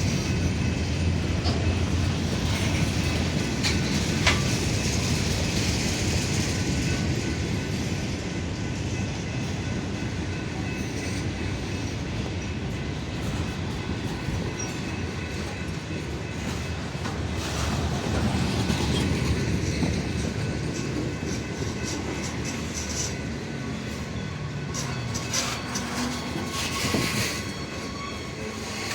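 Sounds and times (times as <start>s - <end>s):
wheels clicking over rail joints: 0.0s - 8.0s, 8.6s - 28.9s
freight train rumbling: 0.0s - 28.9s.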